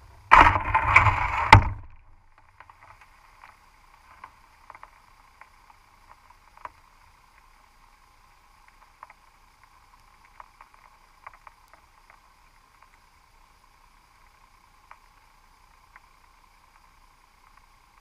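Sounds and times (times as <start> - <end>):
faint clicks and ticks: 0.0 - 18.0
faint underwater hiss: 0.0 - 18.0.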